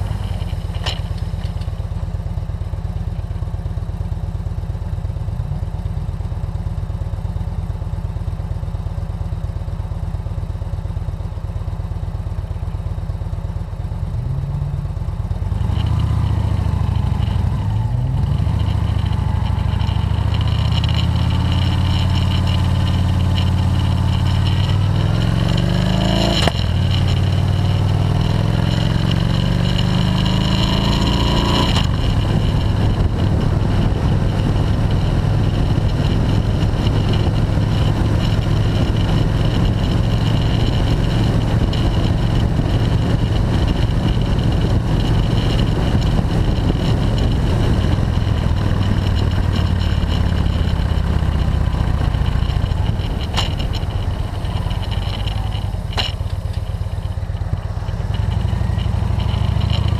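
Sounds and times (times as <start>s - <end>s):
motorcycle engine accelerating: 0.0s - 59.9s
road and wind noise: 0.0s - 59.9s.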